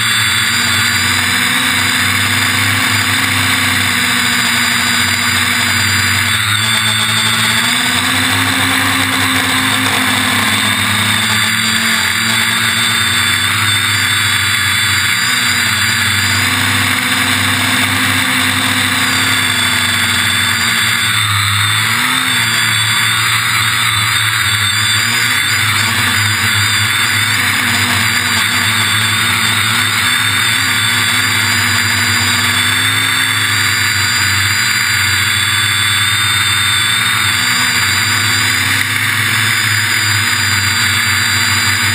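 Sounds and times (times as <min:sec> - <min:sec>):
drone propellers whining: 0:00.0 - 0:41.9.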